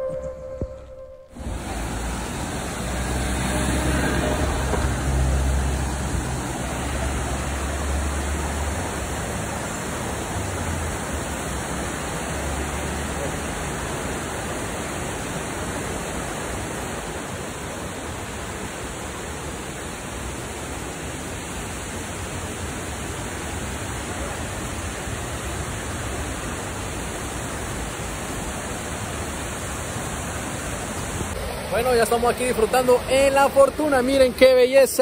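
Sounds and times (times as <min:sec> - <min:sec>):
white-water rapids rushing: 0:01.4 - 0:35.0.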